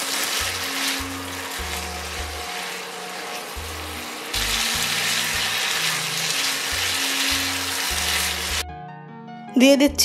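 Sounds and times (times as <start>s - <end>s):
food sizzling in hot oil: 0.0s - 8.6s.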